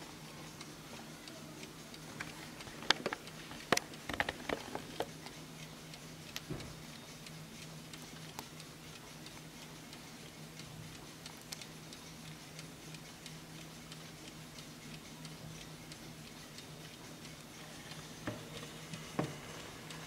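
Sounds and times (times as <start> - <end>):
mantel clock ticking: 0.0 - 20.0.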